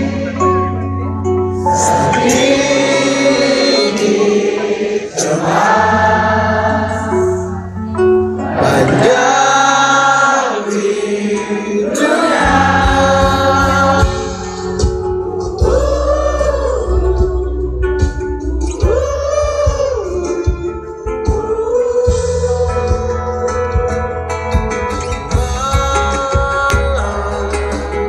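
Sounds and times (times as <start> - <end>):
live band with singing: 0.0 - 28.0.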